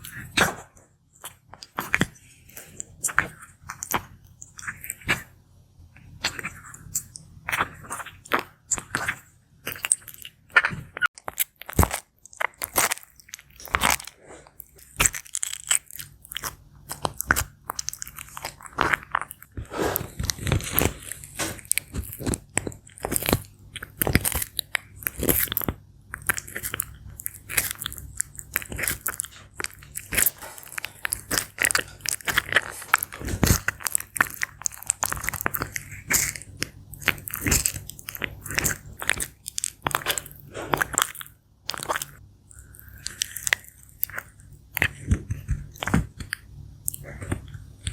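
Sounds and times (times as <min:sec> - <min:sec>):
tortoise chewing crunchy fruit: 0:00.0 - 0:47.9.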